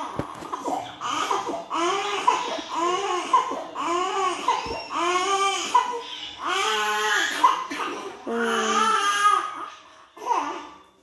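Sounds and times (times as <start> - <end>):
infant crying: 0.5 - 10.8.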